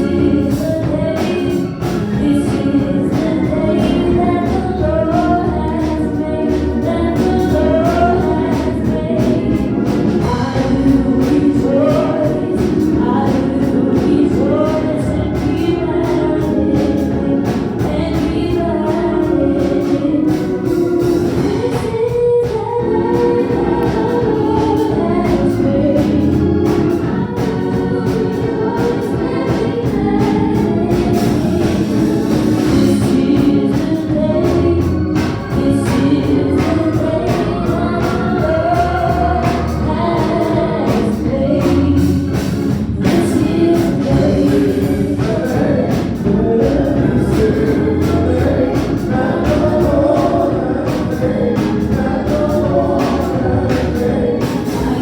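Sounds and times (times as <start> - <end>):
bass line: 0.0 - 55.0
gospel choir singing: 0.0 - 55.0
steady drum beat: 0.0 - 55.0.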